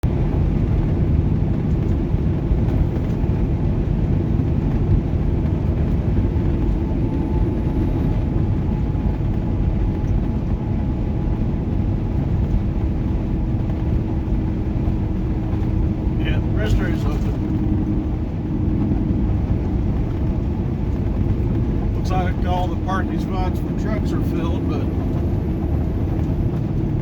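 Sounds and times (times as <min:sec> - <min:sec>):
truck engine and road rumble: 0:00.0 - 0:27.0.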